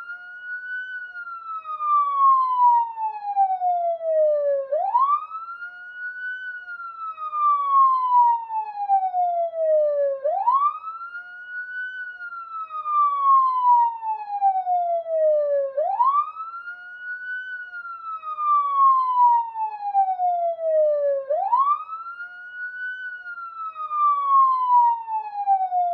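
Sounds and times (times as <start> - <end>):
police siren wailing: 0.0 - 25.9.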